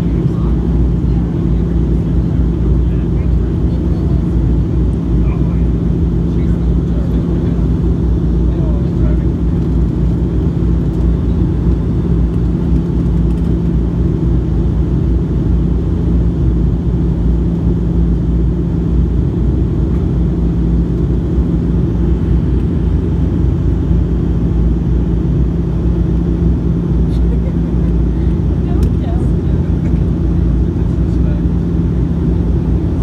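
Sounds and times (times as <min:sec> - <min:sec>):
airplane cabin drone: 0:00.0 - 0:33.0.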